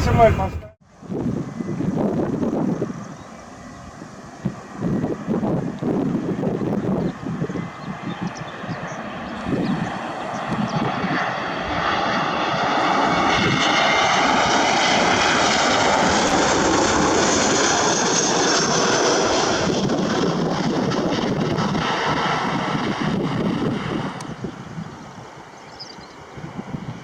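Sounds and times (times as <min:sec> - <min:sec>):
jet engine passing with whine: 0:00.0 - 0:27.0.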